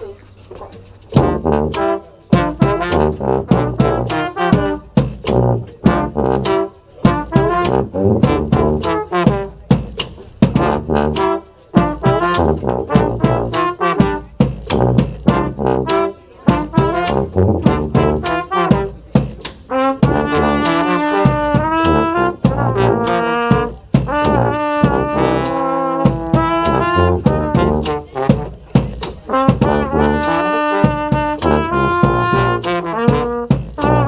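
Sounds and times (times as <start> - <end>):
brass band playing: 0.0 - 34.0
sharp percussive hits: 0.0 - 34.0.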